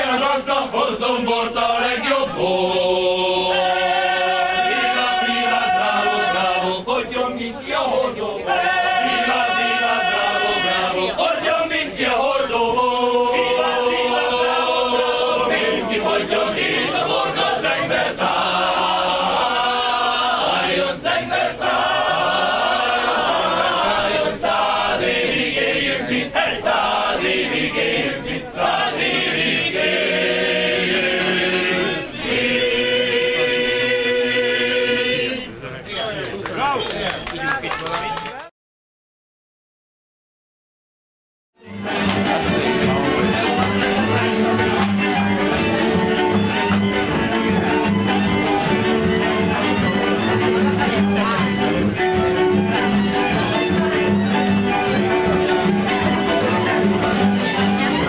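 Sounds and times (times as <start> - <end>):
men's choir singing in harmony: 0.0 - 35.6, 41.7 - 58.0.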